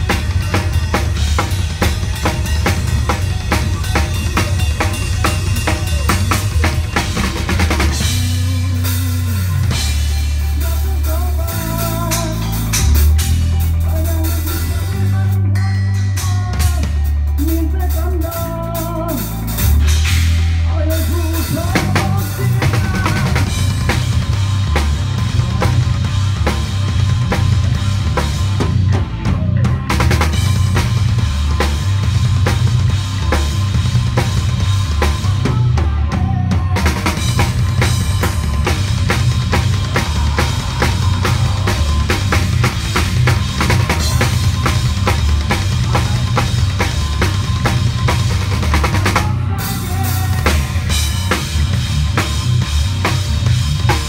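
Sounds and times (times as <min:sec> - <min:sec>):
bass notes: 0:00.0 - 0:54.0
drum kit played fast: 0:00.0 - 0:54.0
electric guitar notes: 0:00.0 - 0:54.0.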